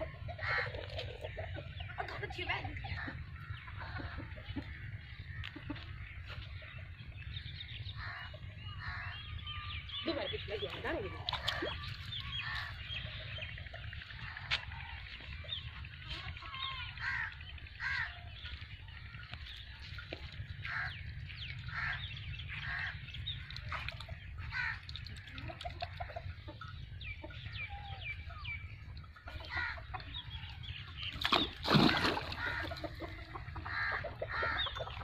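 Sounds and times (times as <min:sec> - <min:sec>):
poultry clucking and chirping: 0:00.0 - 0:35.0.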